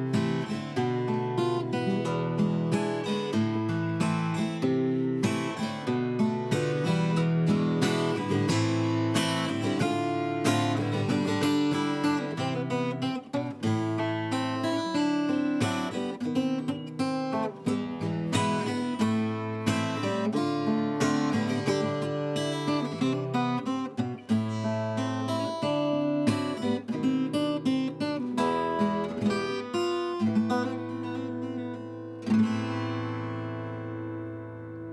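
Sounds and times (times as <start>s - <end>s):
acoustic guitar chords: 0.0s - 34.9s.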